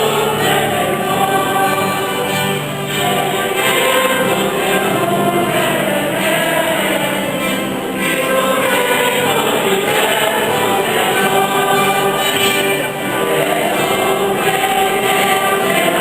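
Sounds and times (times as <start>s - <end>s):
church choir singing a hymn: 0.0s - 16.0s.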